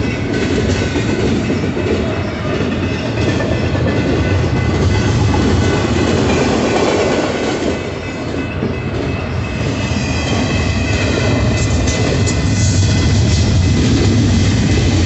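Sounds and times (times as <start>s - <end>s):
crossing electronic bell: 0.0s - 15.0s
train wheels clattering over rails: 0.0s - 15.0s.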